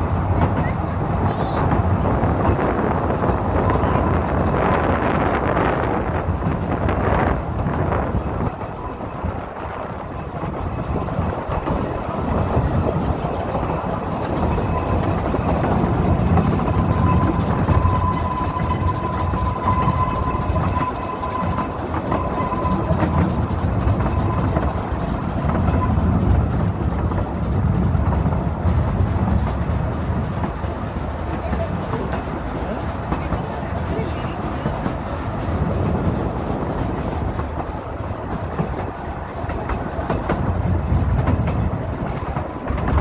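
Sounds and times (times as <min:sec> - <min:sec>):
train wheels rumbling and rattling: 0:00.0 - 0:43.0.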